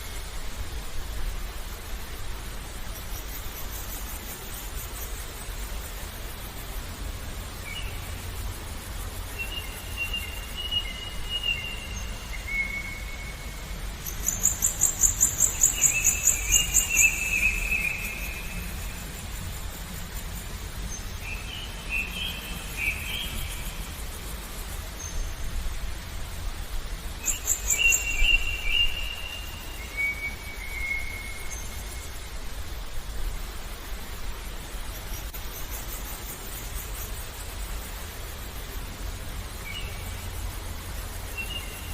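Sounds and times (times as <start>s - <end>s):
running water murmur: 0.0s - 41.9s
songbirds singing: 0.0s - 41.9s.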